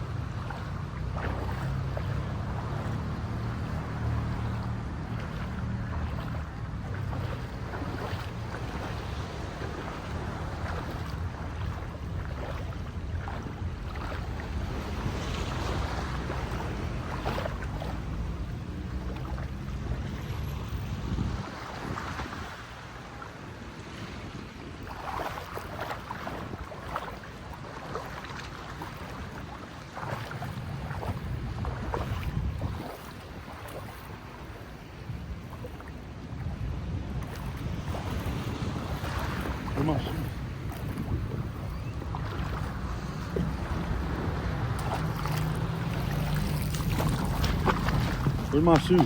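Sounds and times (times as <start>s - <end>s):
seawater sloshing and splashing: 0.0s - 49.0s
surf: 0.0s - 49.0s
wind rumbling on microphone: 0.0s - 49.0s.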